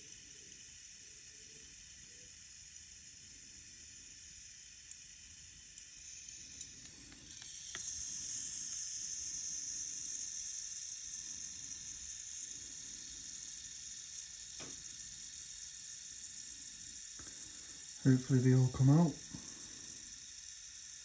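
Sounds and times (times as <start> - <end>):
blowtorch flame hissing: 0.0 - 21.0.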